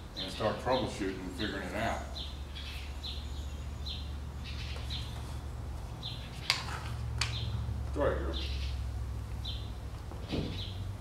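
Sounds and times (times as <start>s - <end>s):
steady low hum: 0.0s - 11.0s
small bird chirping: 1.4s - 10.9s.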